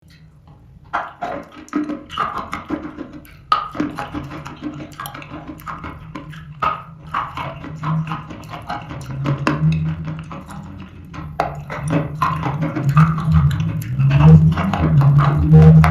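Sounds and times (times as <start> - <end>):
faint low hum: 0.0 - 15.9.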